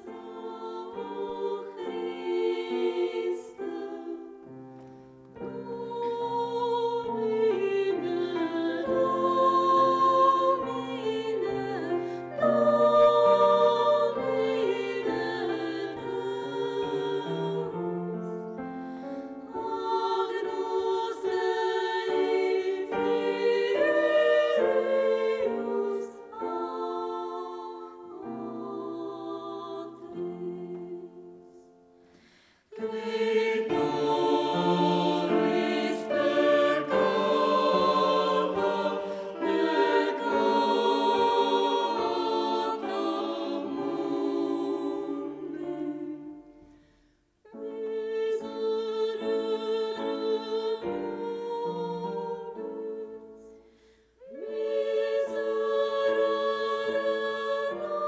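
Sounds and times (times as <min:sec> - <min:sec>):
choir singing sacred music: 0:00.0 - 0:58.0.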